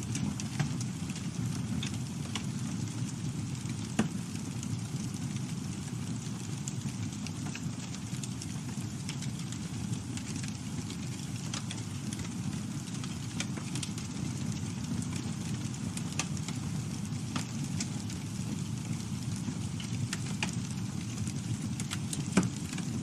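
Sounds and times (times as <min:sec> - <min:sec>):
low rumble of flames: 0:00.0 - 0:23.0
wood crackling and popping: 0:00.0 - 0:23.0.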